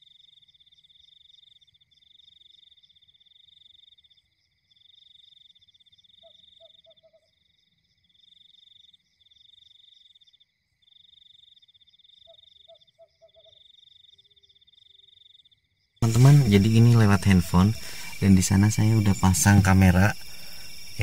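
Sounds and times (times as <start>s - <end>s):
frog low croaks: 0.0s - 21.0s
frogs trilling: 0.0s - 21.0s.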